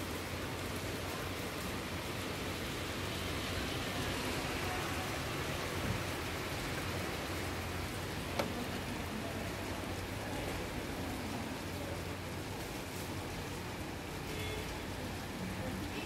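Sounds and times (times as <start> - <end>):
heavy rain on street and cars: 0.0 - 16.0.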